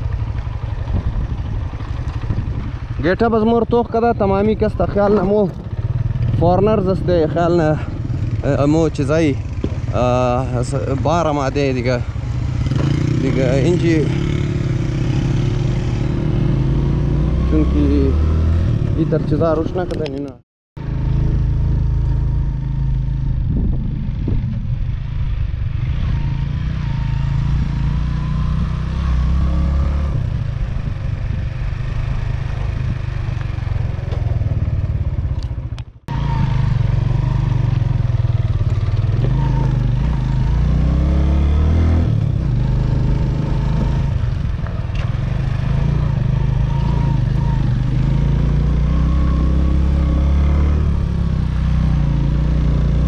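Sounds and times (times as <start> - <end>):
motorcycle engine running: 0.0 - 20.1, 20.8 - 53.0.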